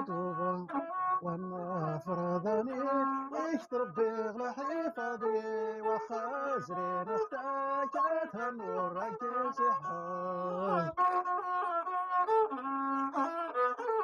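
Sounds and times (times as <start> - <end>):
man singing: 0.0 - 11.5
bowed one-string fiddle: 0.0 - 14.0.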